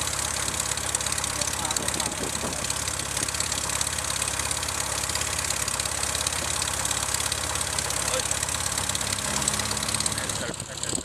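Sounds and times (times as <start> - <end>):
light aircraft engine idling: 0.0 - 11.0.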